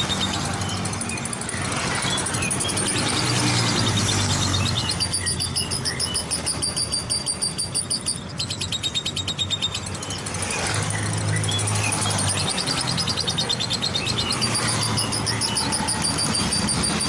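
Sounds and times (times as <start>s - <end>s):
bird chattering trill: 0.0s - 17.0s
low hum of street traffic: 0.0s - 17.0s.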